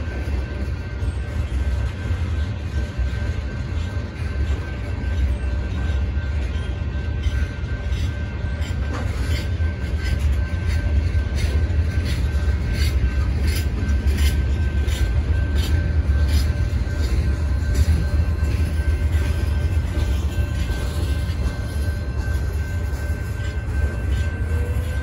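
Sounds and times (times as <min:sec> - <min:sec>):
freight train rumbling: 0:00.0 - 0:25.0
wheels clicking over rail joints: 0:00.0 - 0:25.0.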